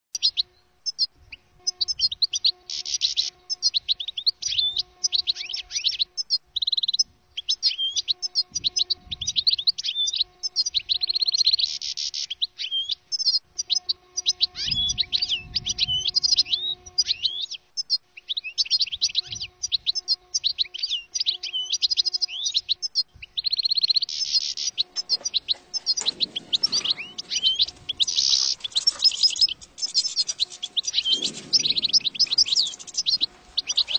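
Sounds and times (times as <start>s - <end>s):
finch twittering song: 0.2s - 33.9s.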